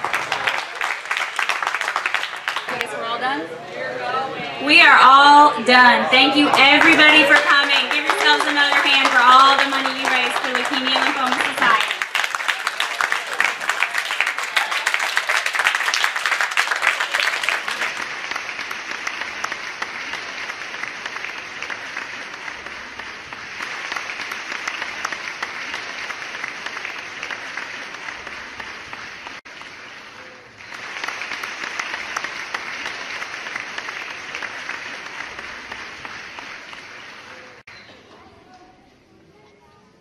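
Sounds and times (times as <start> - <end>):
crowd applauding: 0.0 - 3.2, 6.0 - 37.7.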